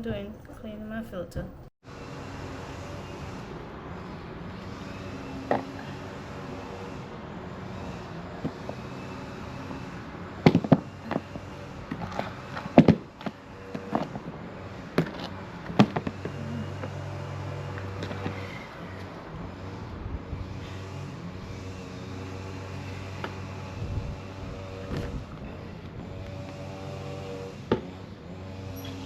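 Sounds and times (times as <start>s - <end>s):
steady background hum: 0.0s - 29.0s
low steady drone: 1.8s - 29.0s.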